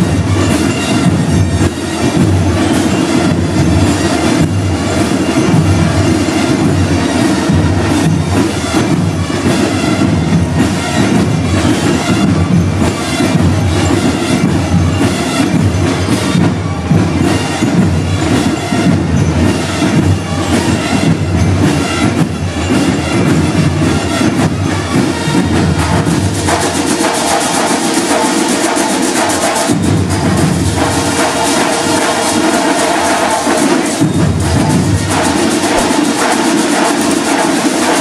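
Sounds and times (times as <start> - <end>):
marching drum line playing: 0.0 - 38.0.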